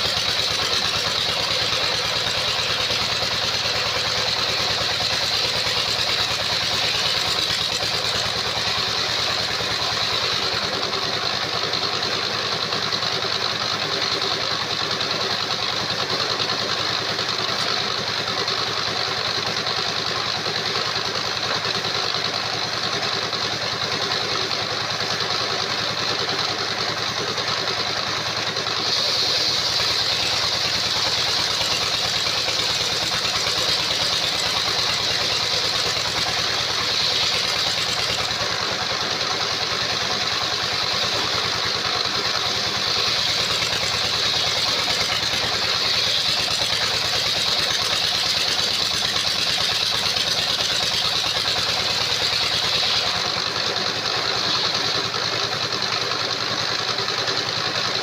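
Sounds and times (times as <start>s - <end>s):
high saw whine: 0.0s - 21.0s, 24.1s - 58.0s.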